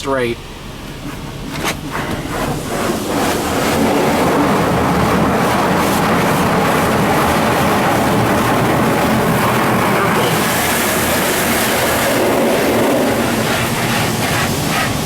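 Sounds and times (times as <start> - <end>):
car wash water and machinery: 0.0 - 15.0.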